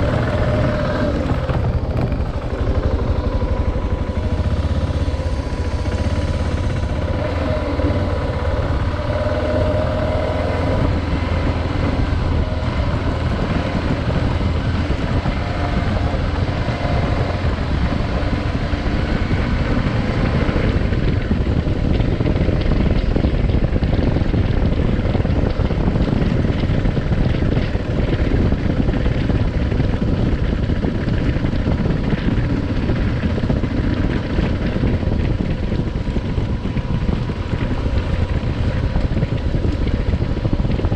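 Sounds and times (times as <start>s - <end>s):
motorcycle engine droning: 0.0s - 40.9s
wind noise on microphone: 0.0s - 40.9s.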